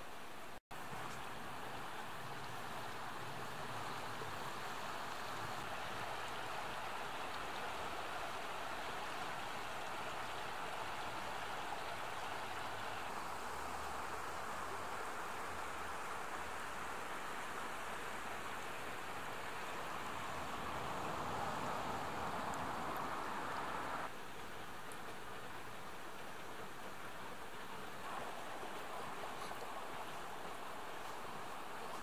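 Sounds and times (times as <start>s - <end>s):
river rushing over rocks: 0.8s - 32.0s.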